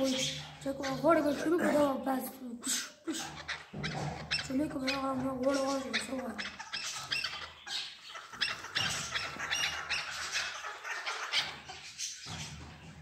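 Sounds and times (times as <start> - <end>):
partridges calling: 0.0 - 1.9, 2.7 - 13.0.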